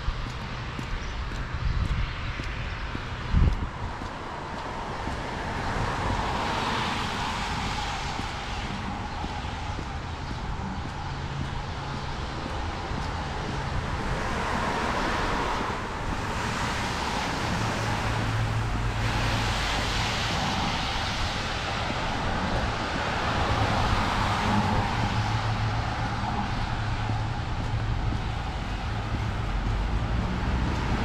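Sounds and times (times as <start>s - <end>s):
cars passing on wet road: 0.0s - 31.0s
wind buffeting microphone: 0.0s - 31.0s.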